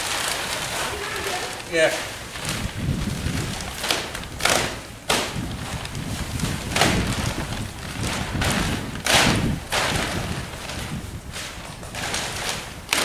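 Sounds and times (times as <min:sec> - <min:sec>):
plastic sheet crackling and rustling: 0:00.0 - 0:13.0.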